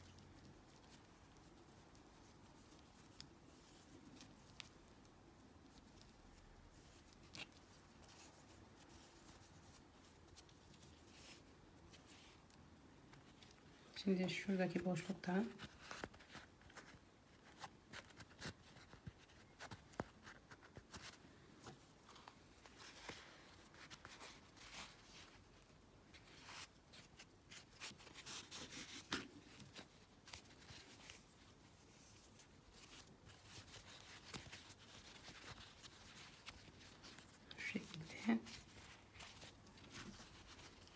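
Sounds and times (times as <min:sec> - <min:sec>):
yarn rustling: 0:00.0 - 0:40.9.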